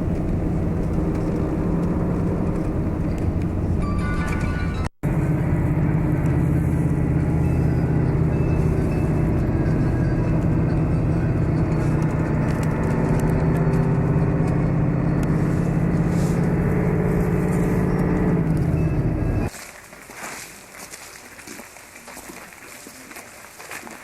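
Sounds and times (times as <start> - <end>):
coach engine and road drone: 0.0 - 19.5.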